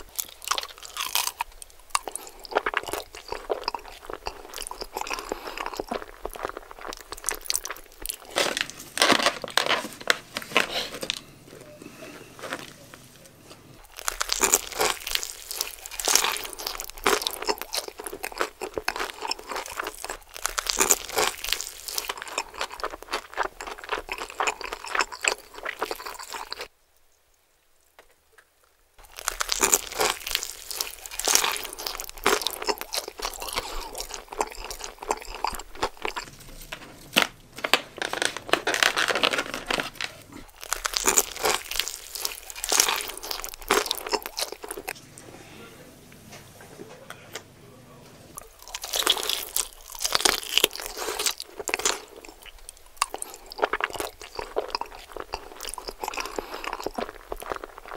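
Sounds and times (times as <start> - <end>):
crunching fried chicken: 0.0 - 13.2, 13.8 - 26.7, 27.8 - 45.0, 48.4 - 57.9.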